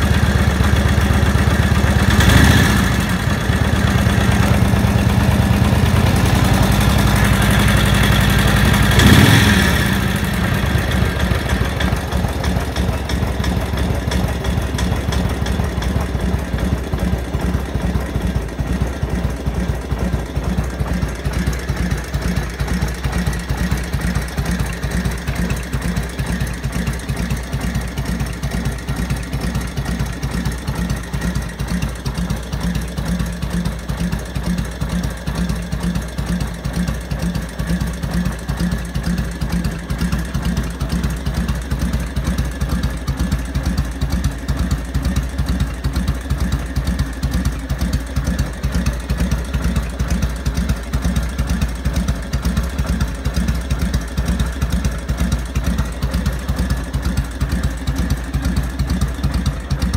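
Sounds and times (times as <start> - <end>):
motorcycle engine revving and idling: 0.0 - 59.9.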